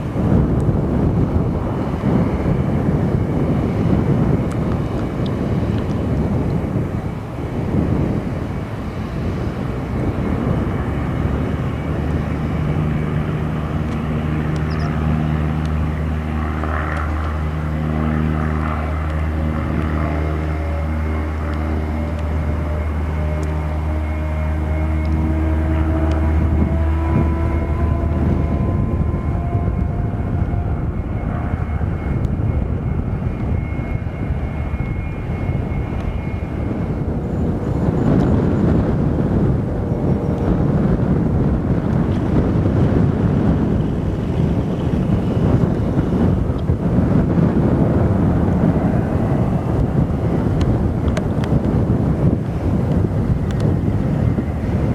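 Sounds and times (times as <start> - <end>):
propeller aircraft engine drone: 0.0 - 54.9.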